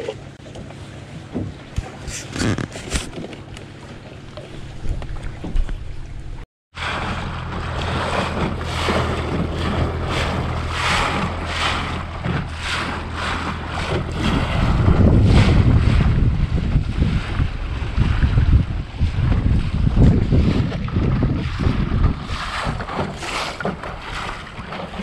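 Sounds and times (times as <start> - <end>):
steady low hum: 0.0 - 24.4
water splashing against boat hull: 0.0 - 25.0
wind buffeting microphone: 4.6 - 25.0.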